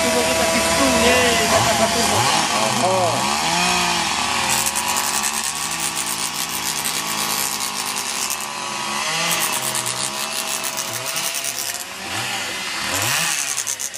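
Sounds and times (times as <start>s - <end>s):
electric chainsaw cutting wood: 0.0s - 13.9s.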